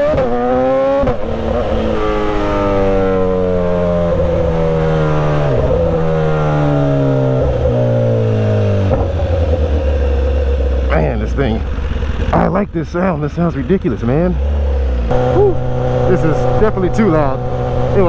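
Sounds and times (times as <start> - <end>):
loud motorcycle engine: 0.0 - 18.0.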